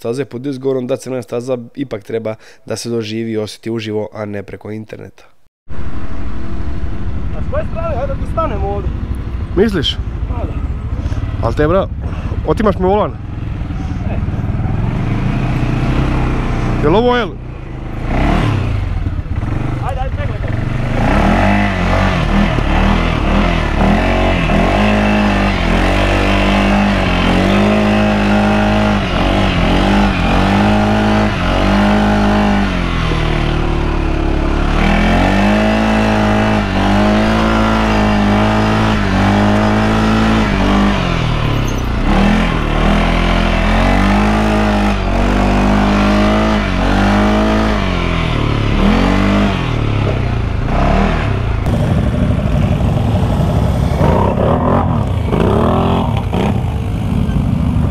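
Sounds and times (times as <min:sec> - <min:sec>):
off-road vehicle engine revving: 0:05.7 - 0:57.9.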